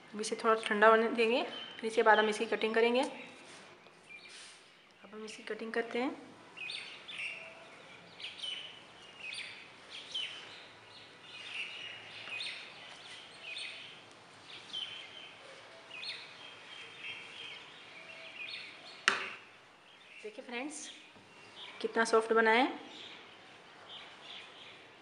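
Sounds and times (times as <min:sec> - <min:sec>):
bird chirping: 0:00.5 - 0:02.9, 0:06.5 - 0:25.0.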